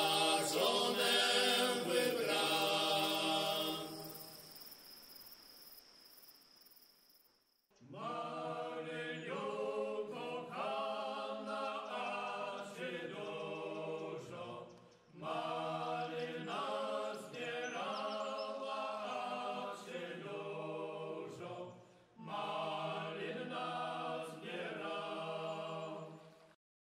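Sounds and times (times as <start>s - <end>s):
group singing in harmony: 0.0s - 4.4s, 7.8s - 26.5s.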